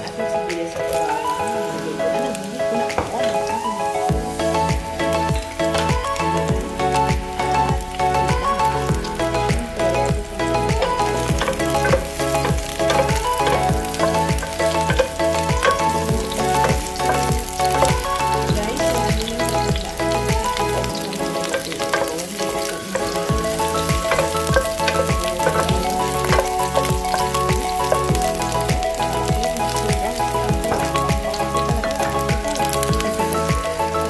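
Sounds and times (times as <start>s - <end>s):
background music with steady beat: 0.0s - 34.0s
onion and garlic sizzling in oil: 0.0s - 34.0s.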